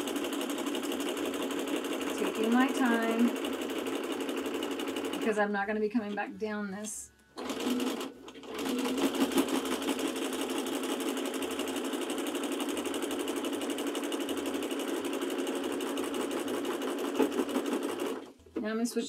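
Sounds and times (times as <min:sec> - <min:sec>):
sewing machine stitching fast: 0:00.0 - 0:05.4, 0:07.4 - 0:18.4.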